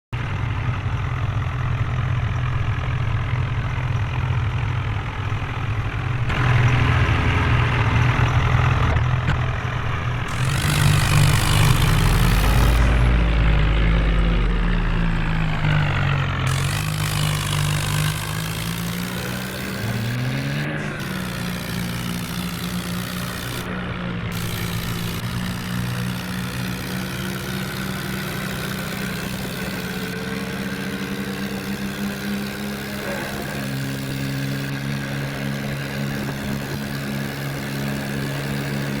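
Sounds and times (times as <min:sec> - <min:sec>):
diesel tractor engines revving: 0:00.0 - 0:39.0.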